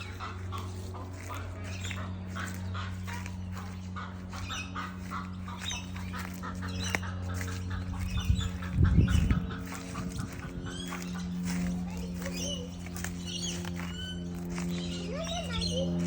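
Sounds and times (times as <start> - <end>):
birds calling in short notes: 0.0 - 16.0
steady low hum: 0.0 - 16.0.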